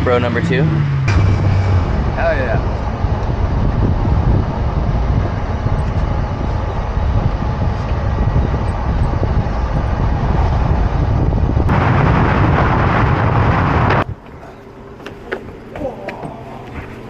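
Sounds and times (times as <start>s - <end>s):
pickup truck rumble: 0.0s - 14.1s
wind buffeting microphone: 0.0s - 14.6s.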